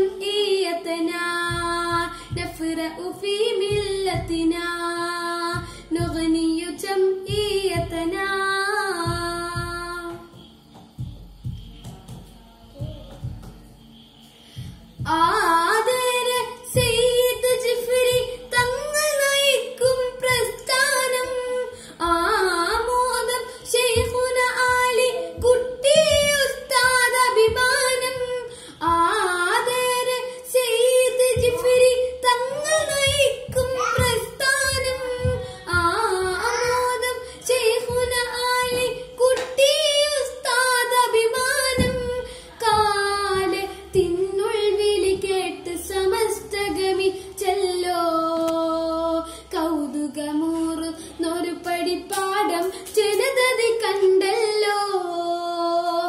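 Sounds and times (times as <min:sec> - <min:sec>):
boy singing: 0:00.0 - 0:10.3, 0:15.0 - 0:56.0.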